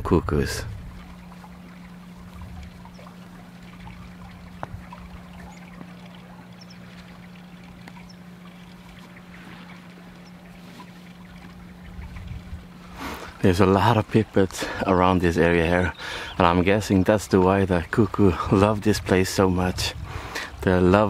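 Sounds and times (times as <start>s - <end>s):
steady low hum: 0.0s - 21.0s
soft trickling hiss: 0.3s - 21.0s.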